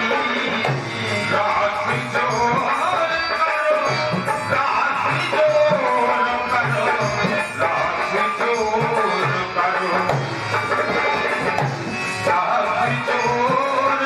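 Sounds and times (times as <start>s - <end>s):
tabla rhythm: 0.0s - 14.0s.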